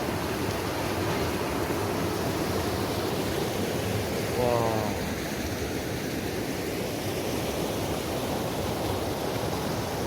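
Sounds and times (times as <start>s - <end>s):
mountain stream rushing: 0.0s - 10.0s.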